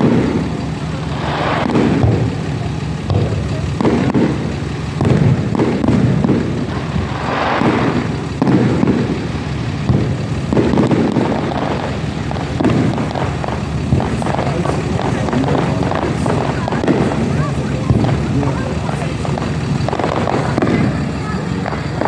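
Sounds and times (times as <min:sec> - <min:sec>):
fireworks bangs: 0:00.0 - 0:22.0
low rumbling: 0:00.0 - 0:22.0.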